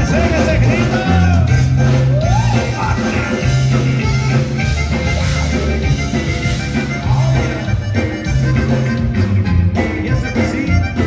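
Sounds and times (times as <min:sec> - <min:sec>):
button accordion: 0:00.0 - 0:11.0
drum kit: 0:00.0 - 0:11.0
electric bass: 0:00.0 - 0:11.0
electric guitar: 0:00.0 - 0:11.0.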